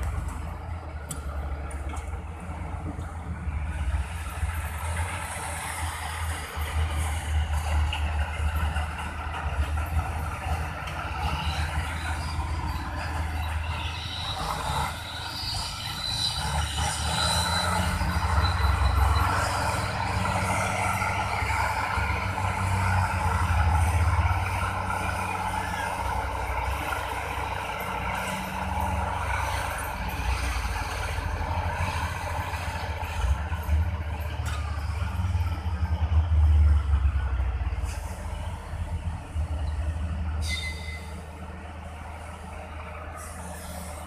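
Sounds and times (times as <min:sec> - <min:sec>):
heavy machinery diesel engines rumbling: 0:00.0 - 0:44.0.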